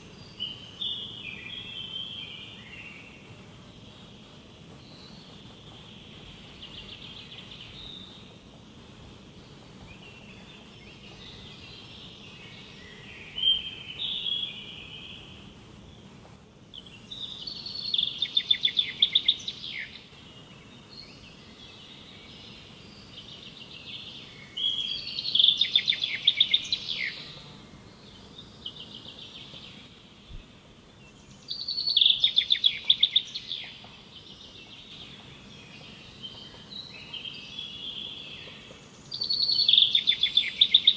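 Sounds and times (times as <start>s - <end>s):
faint background hiss: 0.0s - 40.9s
songbird singing: 0.0s - 40.9s.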